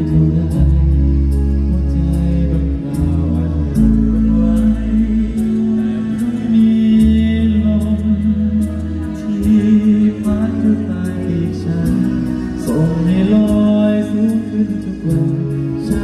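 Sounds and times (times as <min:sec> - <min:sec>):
deep bass notes: 0:00.0 - 0:16.0
live band playing pop ballad: 0:00.0 - 0:16.0
person singing long notes: 0:00.0 - 0:16.0.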